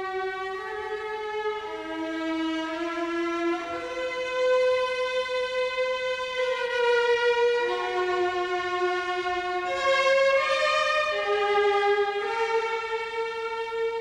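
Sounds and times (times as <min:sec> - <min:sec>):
slow instrumental music: 0:00.0 - 0:14.0.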